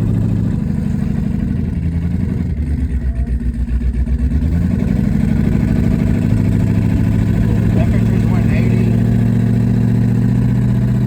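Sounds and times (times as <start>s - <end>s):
car engine lumpy idle and revving: 0.0s - 11.0s.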